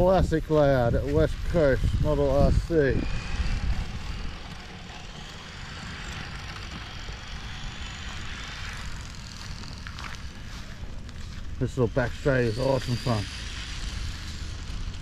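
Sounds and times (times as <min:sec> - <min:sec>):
electric toy car motor whine: 0:00.0 - 0:15.0.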